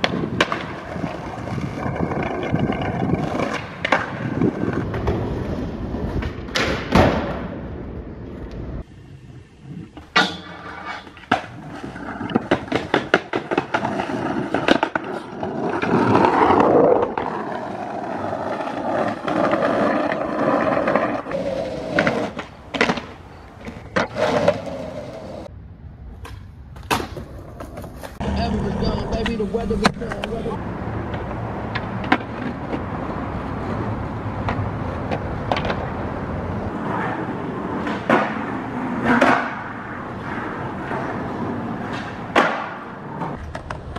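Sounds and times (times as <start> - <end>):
skateboard clacks: 0.0 - 7.6, 10.0 - 25.5, 26.1 - 43.9
skateboard wheels rolling on concrete: 0.0 - 43.9.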